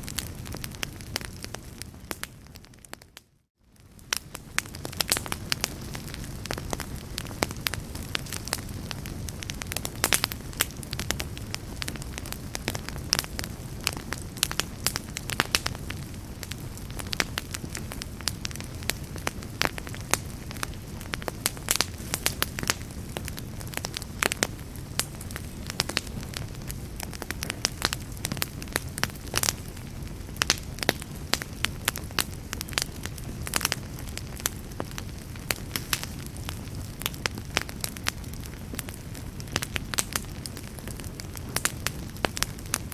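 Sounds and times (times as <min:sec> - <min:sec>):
low rumble of flames: 0:00.0 - 0:42.9
wood fire crackling and popping: 0:00.0 - 0:42.9.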